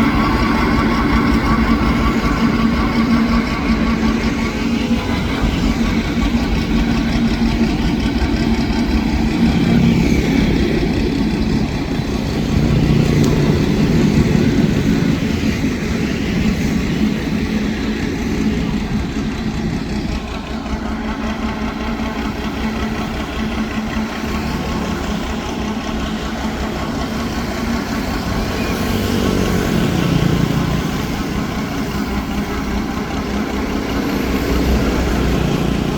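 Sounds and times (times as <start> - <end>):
boat engine running: 0.0 - 35.9.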